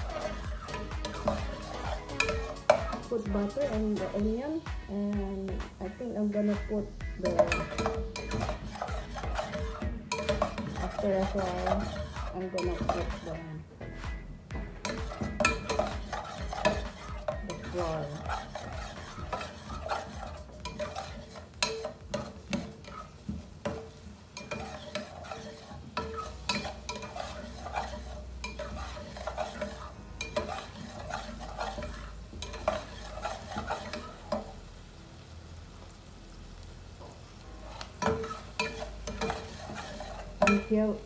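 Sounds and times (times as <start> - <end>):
spoon scraping saucepan: 0.0 - 4.2, 7.2 - 14.1, 14.8 - 34.6, 37.6 - 41.0
butter sizzling: 0.0 - 41.0.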